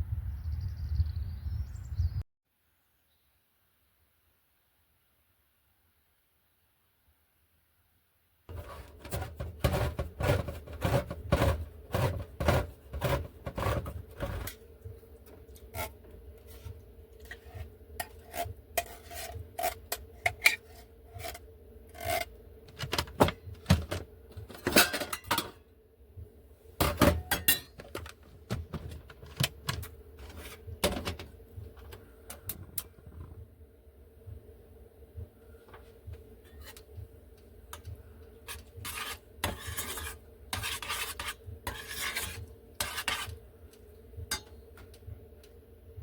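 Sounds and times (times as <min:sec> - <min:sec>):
steady hum: 0:08.5 - 0:46.0.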